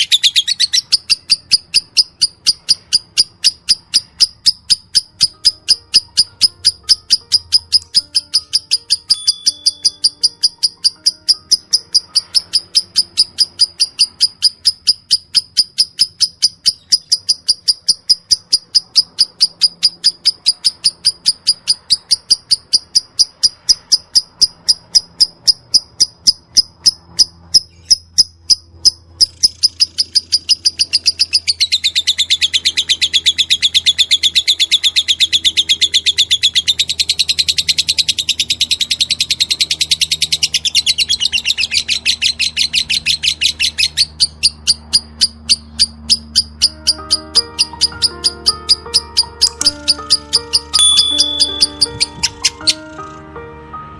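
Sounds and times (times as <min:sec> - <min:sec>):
lovebird chirping: 0:00.0 - 0:53.2.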